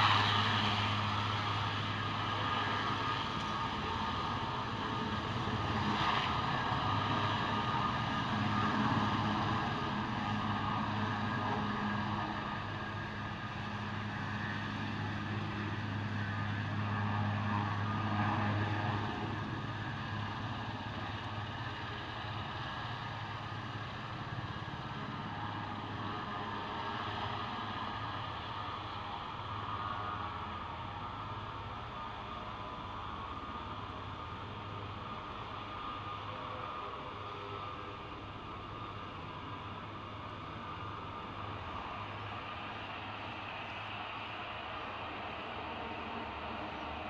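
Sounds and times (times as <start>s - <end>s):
helicopter engines and rotor: 0.0s - 47.0s.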